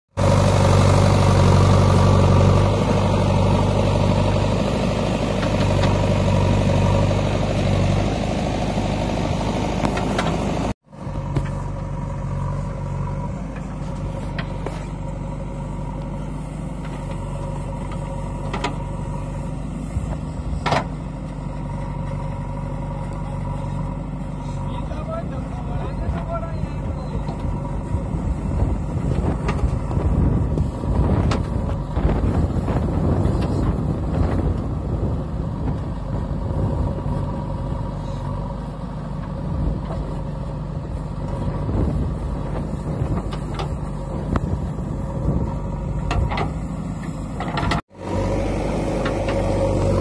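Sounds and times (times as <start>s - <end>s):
diesel engine running: 0.1s - 50.0s.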